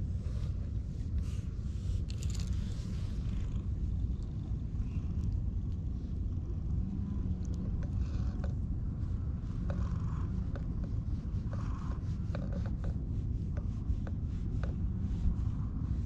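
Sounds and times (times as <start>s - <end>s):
steady low rumble: 0.0s - 16.0s
fingers scratching cat fur: 0.1s - 5.9s, 6.9s - 16.0s.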